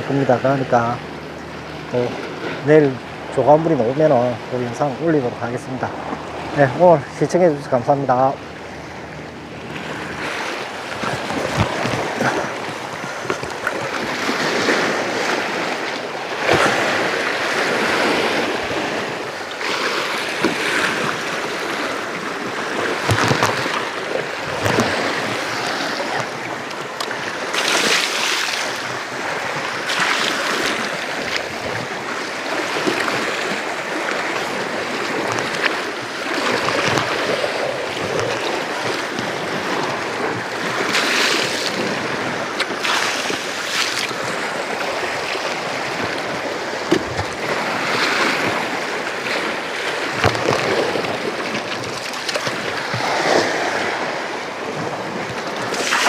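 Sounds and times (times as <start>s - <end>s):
sea surf splashing on rocks: 9.6s - 56.0s.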